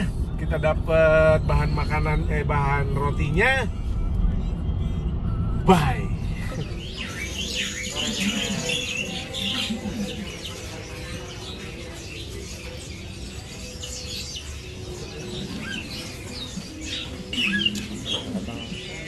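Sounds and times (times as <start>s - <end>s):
small birds twittering: 0.0s - 5.0s, 5.6s - 19.0s
faint voices: 0.0s - 19.0s.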